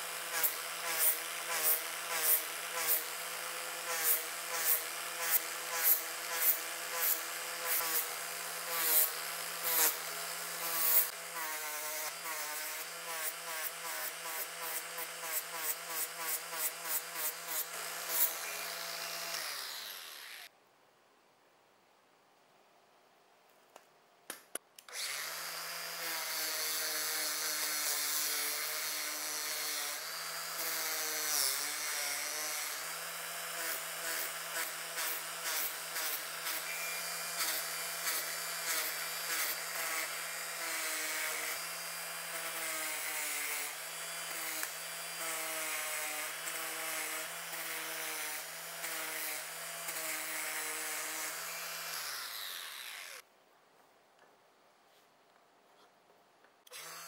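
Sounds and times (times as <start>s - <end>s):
angle grinder sanding metal: 0.0s - 20.5s, 25.0s - 53.2s.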